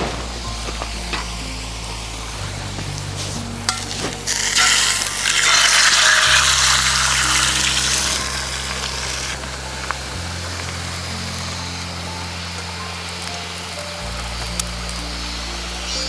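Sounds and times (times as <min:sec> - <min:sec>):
background music low notes: 0:00.0 - 0:16.0
food sizzling in a pan: 0:00.0 - 0:16.0.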